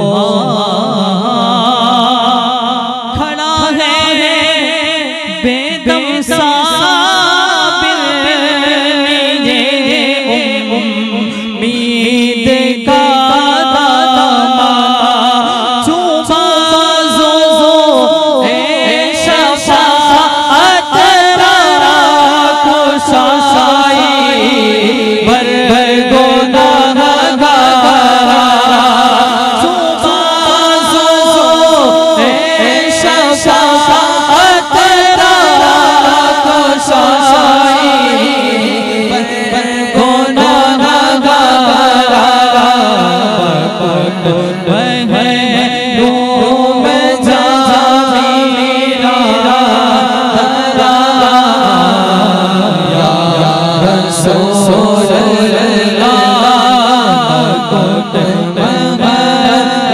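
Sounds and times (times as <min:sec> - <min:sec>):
man singing into microphone: 0:00.0 - 0:59.9.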